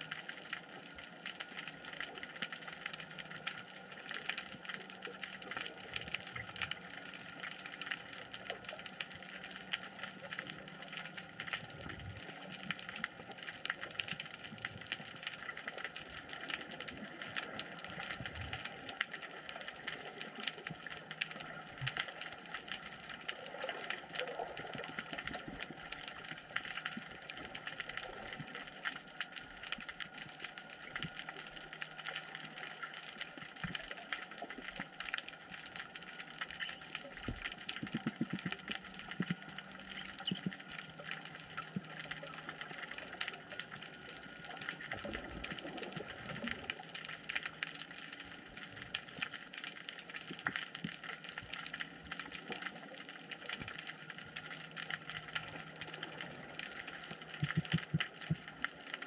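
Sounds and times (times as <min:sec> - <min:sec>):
dense crackle of fine clicks: 0:00.0 - 0:59.0.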